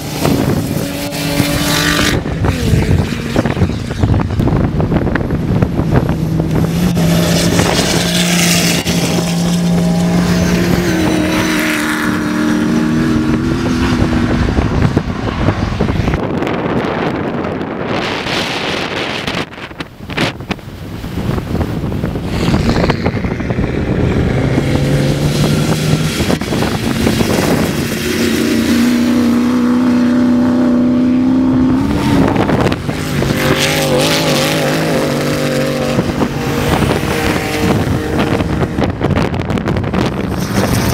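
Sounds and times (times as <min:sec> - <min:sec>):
race vehicle engines revving: 0:00.0 - 0:40.9
wind buffeting microphone: 0:00.0 - 0:40.9.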